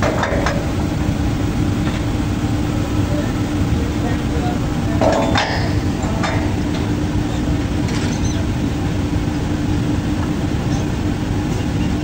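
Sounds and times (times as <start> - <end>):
drilling rig machinery drone: 0.0 - 12.0.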